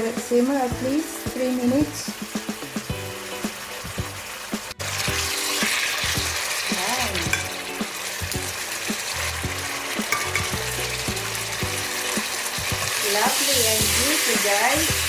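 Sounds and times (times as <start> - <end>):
background music: 0.0 - 15.0
chicken sizzling in oil: 0.0 - 15.0.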